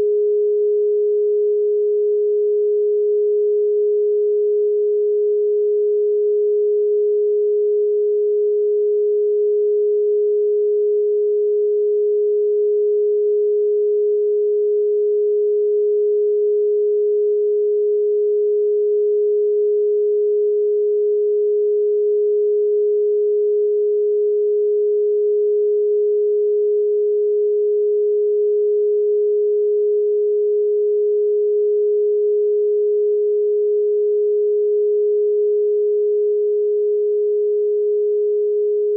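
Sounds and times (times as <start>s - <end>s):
steady sine tone: 0.0s - 38.9s.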